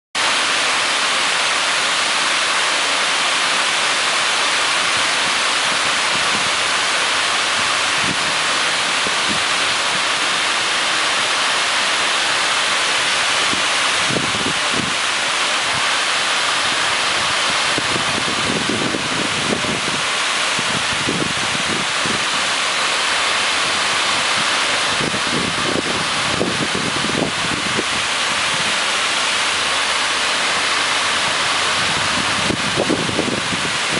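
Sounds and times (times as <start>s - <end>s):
fountain water splashing into pool: 0.2s - 33.9s.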